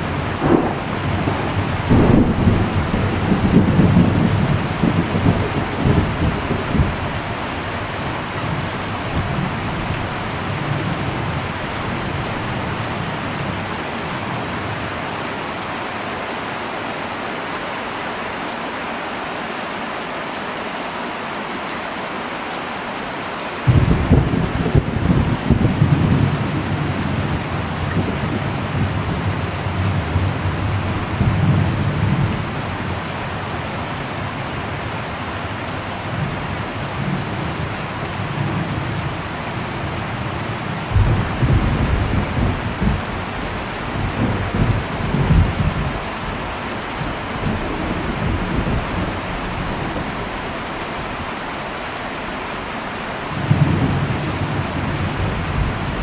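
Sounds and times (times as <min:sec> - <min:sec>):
thunder rumbling: 0:00.0 - 0:14.8, 0:23.7 - 0:51.3, 0:53.2 - 0:56.0
heavy rain on a metal roof: 0:00.0 - 0:56.0.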